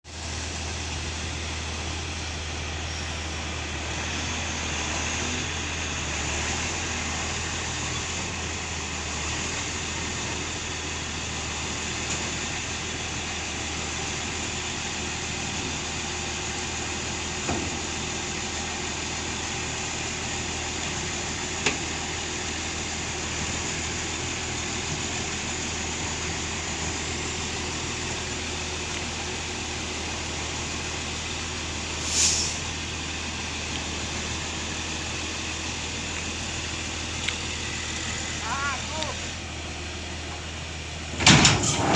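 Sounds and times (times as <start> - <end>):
heavy vehicle engine humming: 0.0 - 41.9.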